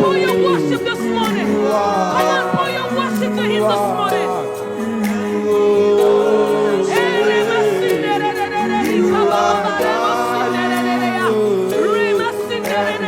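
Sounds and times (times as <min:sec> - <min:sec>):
group singing worship songs: 0:00.0 - 0:13.0.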